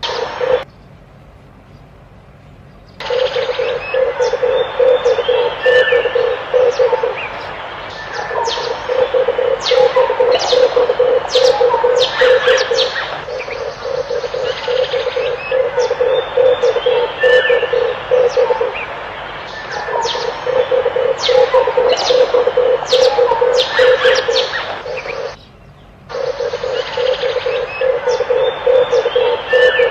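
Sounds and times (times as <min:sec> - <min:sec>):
doves cooing: 0:00.0 - 0:00.6, 0:03.0 - 0:25.4, 0:26.1 - 0:29.9
birds chirping sharply: 0:00.0 - 0:01.0, 0:02.5 - 0:29.9.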